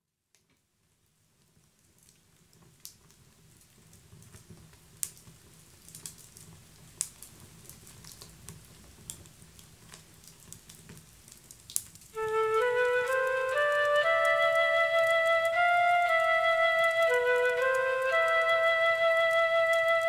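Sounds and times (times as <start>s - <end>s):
fire clicks and crackles: 0.3s - 20.0s.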